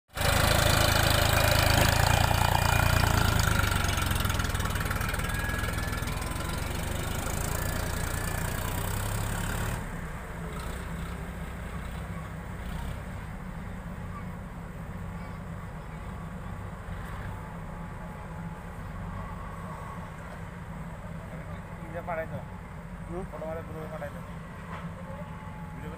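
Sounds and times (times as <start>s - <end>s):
tractor diesel engines running: 0.1s - 25.9s.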